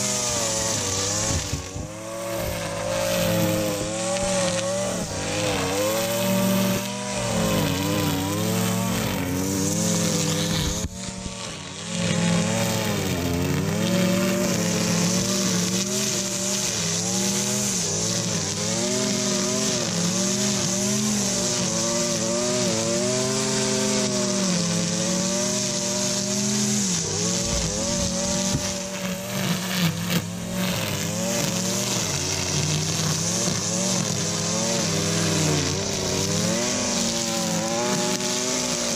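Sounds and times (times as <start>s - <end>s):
string trimmer engine revving: 0.0s - 38.9s.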